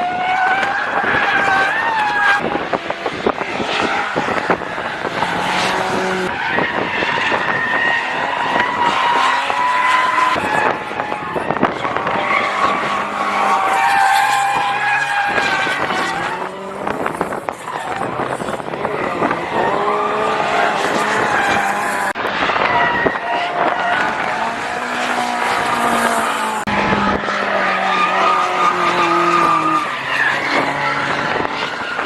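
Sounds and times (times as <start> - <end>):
car engine noise: 0.0 - 32.0
wind buffeting microphone: 2.4 - 9.6, 10.2 - 30.0.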